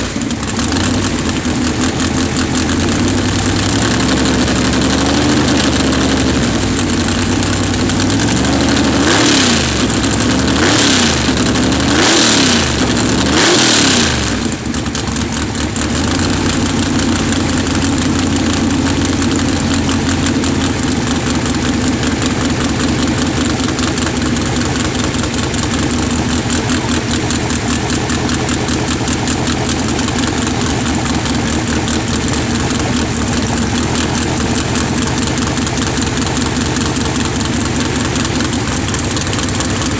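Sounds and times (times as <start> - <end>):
car engine idling: 0.0 - 39.9
race car engine revving: 0.0 - 39.9.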